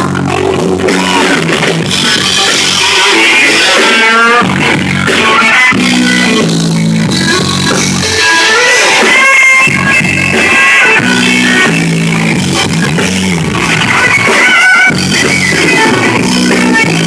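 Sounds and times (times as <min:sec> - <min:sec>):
electric guitar sliding notes: 0:00.0 - 0:17.0
live rock band playing: 0:00.0 - 0:17.0.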